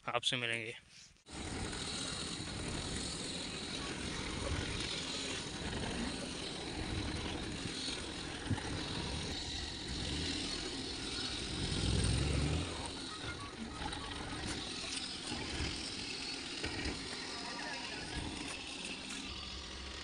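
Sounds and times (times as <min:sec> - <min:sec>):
small car engine rumble: 0:01.3 - 0:20.0.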